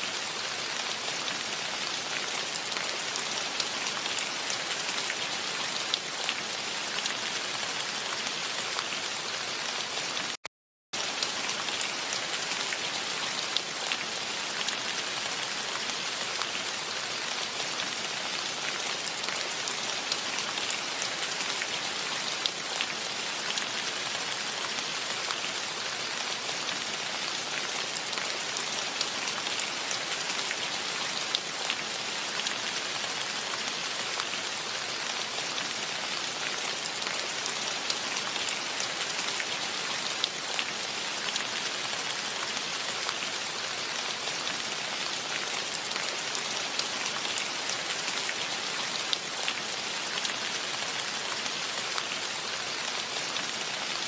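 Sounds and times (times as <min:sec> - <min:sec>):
steady rain: 0:00.0 - 0:10.4, 0:11.0 - 0:54.0.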